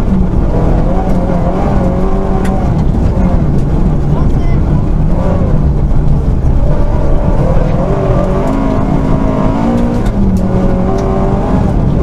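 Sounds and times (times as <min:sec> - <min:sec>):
rally car engine revving: 0:00.0 - 0:12.0
tyres rumbling on snow: 0:00.0 - 0:12.0.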